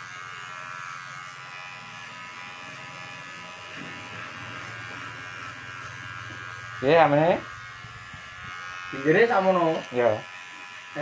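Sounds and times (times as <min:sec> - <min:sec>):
hair clipper humming: 0:00.0 - 0:11.0.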